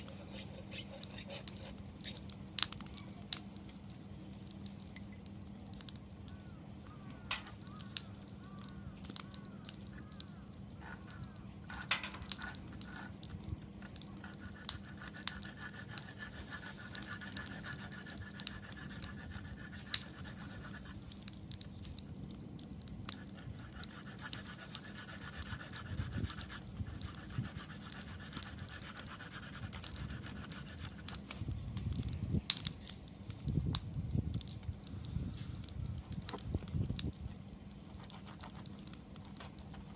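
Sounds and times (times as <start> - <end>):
campfire crackling and popping: 0.0 - 39.9
fluttering hiss: 0.0 - 39.9
low rumble of flames: 0.0 - 39.9.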